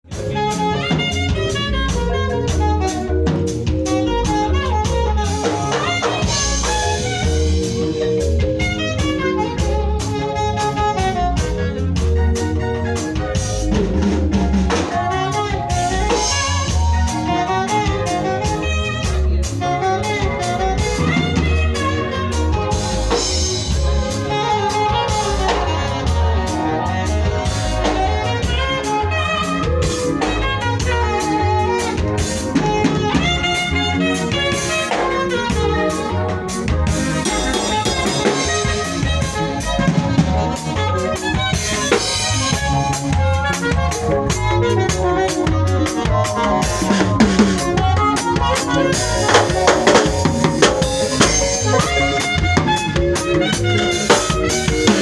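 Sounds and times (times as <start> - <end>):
drum kit groove: 0.0 - 55.0
melodic instruments playing: 0.0 - 55.0.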